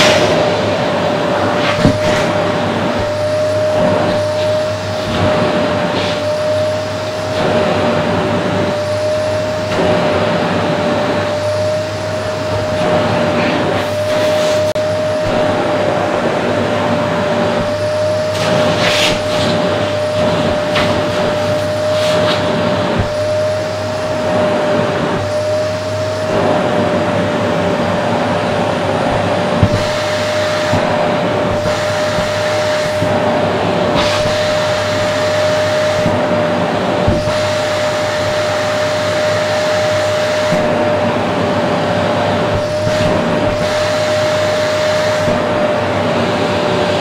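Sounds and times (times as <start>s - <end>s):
vacuum cleaner running: 0.0s - 47.0s
vacuum hose sucking fabric: 0.0s - 47.0s.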